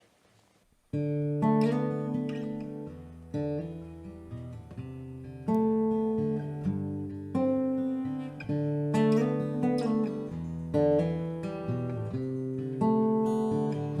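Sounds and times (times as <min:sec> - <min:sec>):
guitar chords and picked notes: 0:00.9 - 0:14.0.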